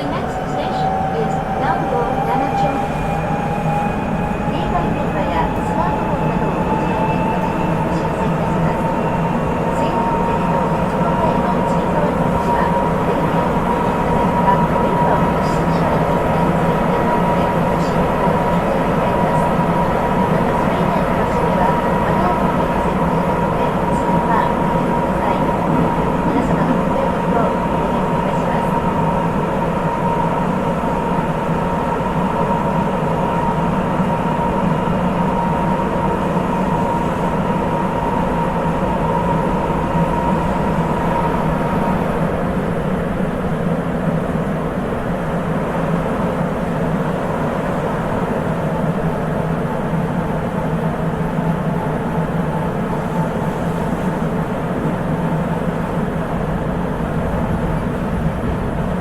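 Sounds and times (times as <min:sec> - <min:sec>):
subway train running gear rumble: 0:00.0 - 0:59.0.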